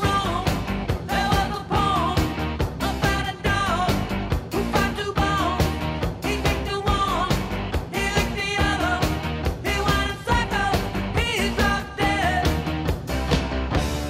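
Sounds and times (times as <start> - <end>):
rock song with singing: 0.0 - 14.0
steady drum beat: 0.0 - 14.0.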